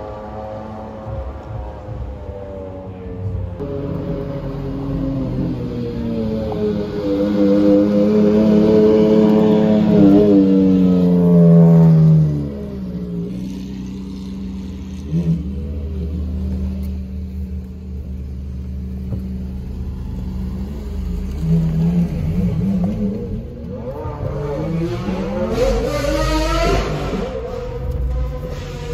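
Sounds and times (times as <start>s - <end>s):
car engine accelerating hard: 0.0s - 28.9s
low engine rumble: 0.0s - 28.9s.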